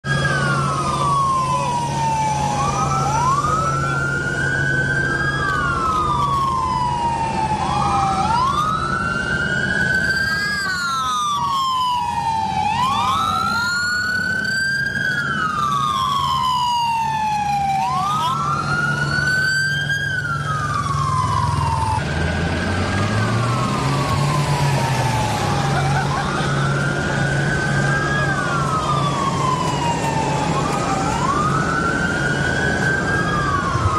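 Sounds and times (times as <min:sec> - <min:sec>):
police sirens wailing: 0:00.0 - 0:33.9.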